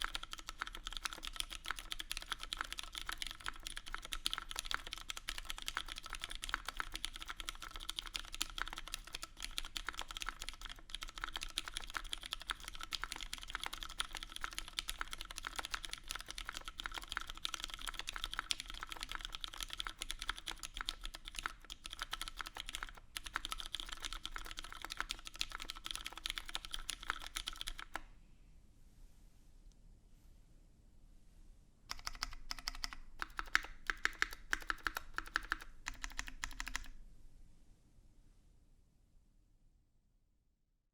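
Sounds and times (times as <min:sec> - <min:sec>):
mechanical keyboard typing: 0:00.0 - 0:28.0, 0:31.9 - 0:37.0.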